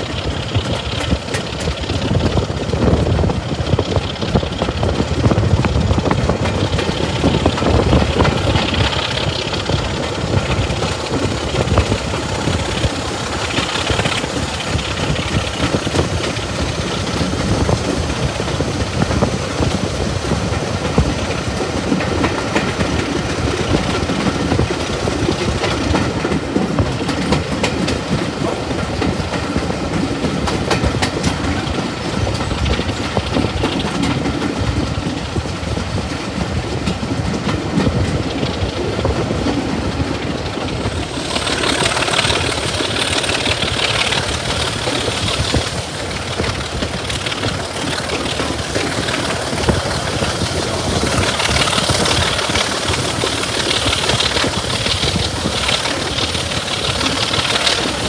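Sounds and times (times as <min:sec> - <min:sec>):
clicks of wheels on rail joints: 0:00.0 - 0:58.0
diesel locomotive engine: 0:00.0 - 0:58.0
train wheels rumbling on rails: 0:00.0 - 0:58.0.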